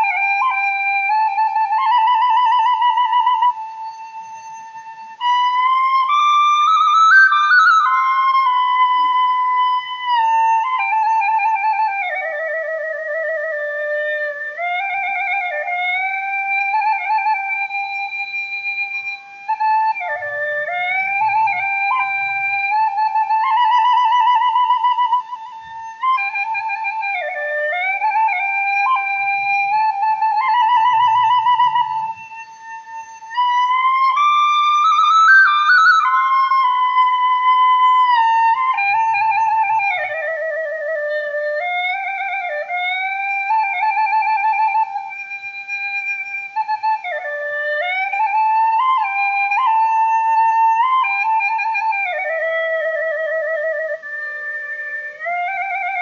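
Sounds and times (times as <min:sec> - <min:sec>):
solo flute melody: 0:00.0 - 0:56.0.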